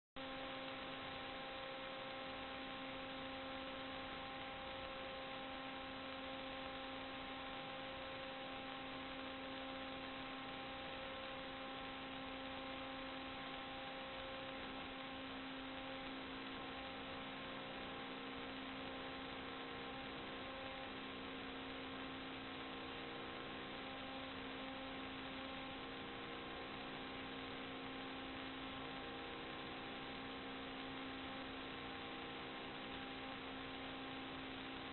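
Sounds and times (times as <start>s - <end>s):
constant hiss: 0.2s - 34.9s
electrical hum: 0.2s - 34.9s.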